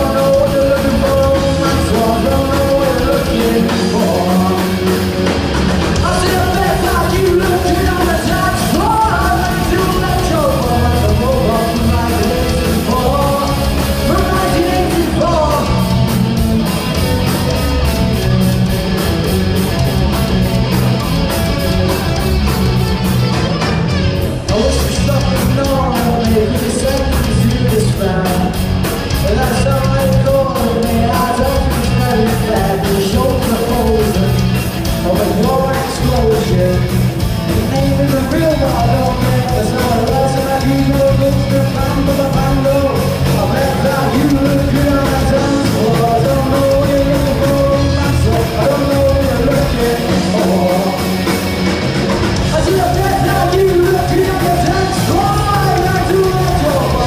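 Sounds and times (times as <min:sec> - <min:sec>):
person singing lead vocal: 0:00.0 - 0:16.4, 0:24.4 - 0:51.4, 0:52.3 - 0:57.0
drum kit: 0:00.0 - 0:57.0
electric guitars: 0:00.0 - 0:57.0.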